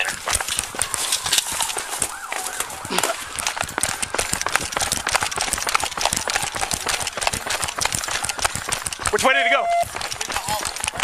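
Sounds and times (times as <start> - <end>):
clothing and gear knocking: 0.0 - 11.0
running footfalls: 0.0 - 11.0.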